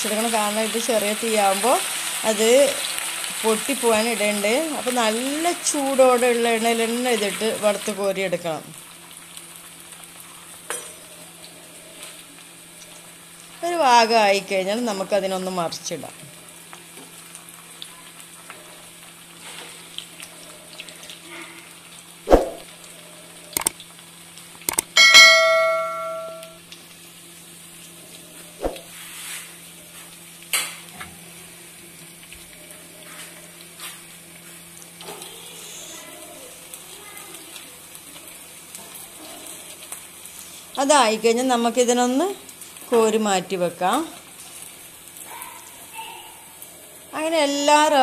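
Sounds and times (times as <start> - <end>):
snacks sizzling in hot oil: 0.0 - 48.0.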